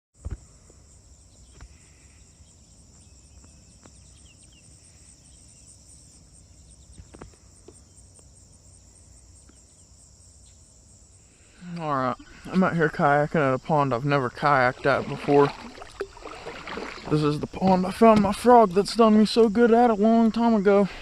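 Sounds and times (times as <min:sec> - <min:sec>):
high-pitched insect chorus: 0:00.2 - 0:21.0.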